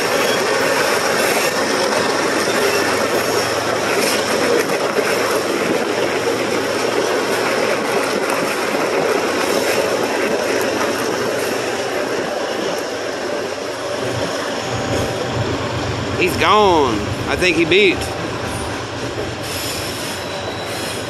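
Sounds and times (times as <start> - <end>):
train running: 0.0 - 21.0.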